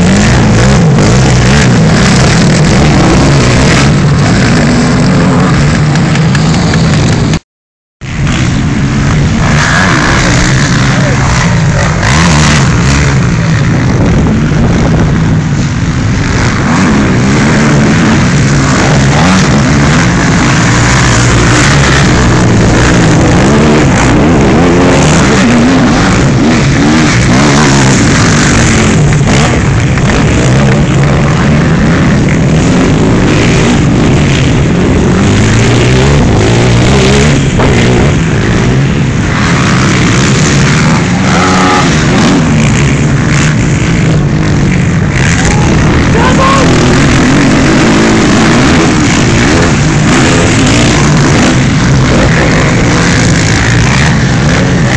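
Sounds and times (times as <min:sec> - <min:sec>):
racing engines revving: 0:00.0 - 0:07.4, 0:08.0 - 0:54.9.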